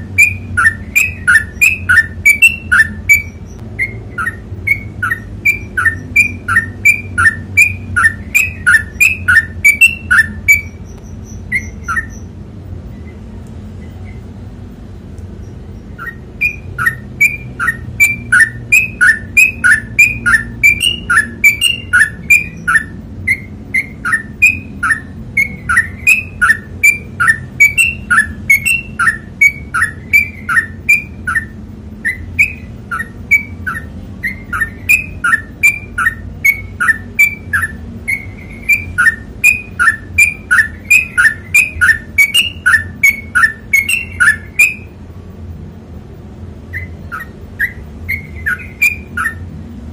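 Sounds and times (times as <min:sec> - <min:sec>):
bird singing whistled phrases: 0:00.0 - 0:12.3, 0:15.4 - 0:45.0, 0:46.7 - 0:49.5.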